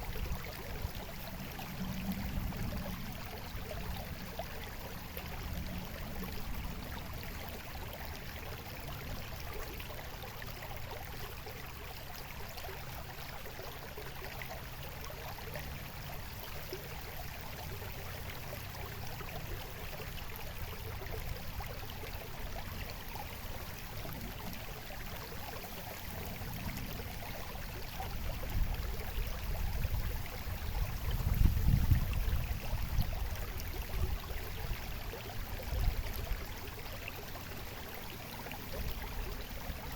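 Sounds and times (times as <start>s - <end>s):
water babbling and trickling: 0.0s - 39.9s.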